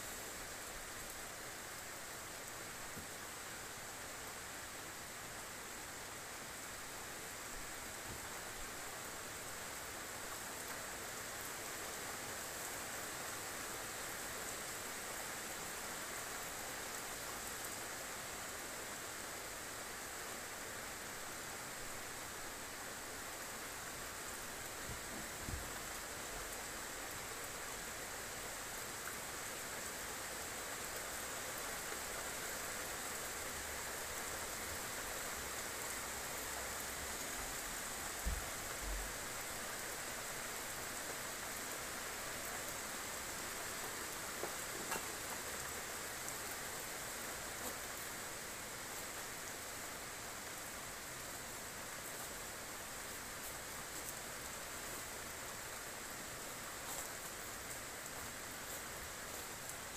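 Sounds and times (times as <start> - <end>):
rain falling on roofs: 0.0 - 59.9.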